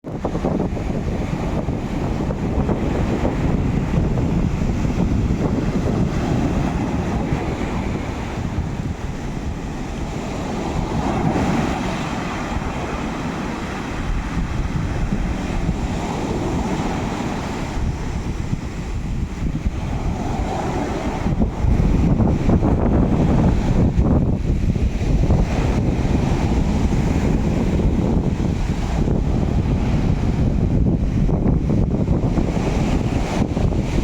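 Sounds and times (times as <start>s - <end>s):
sea waves washing ashore: 0.0s - 34.0s
wind buffeting microphone: 0.0s - 34.0s.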